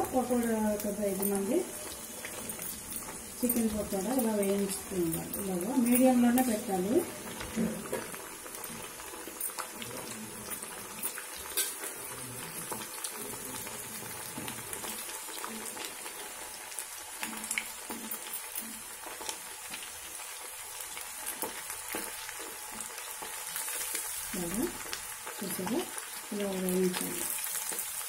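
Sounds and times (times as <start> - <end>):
oil bubbling and sizzling: 0.0 - 28.0.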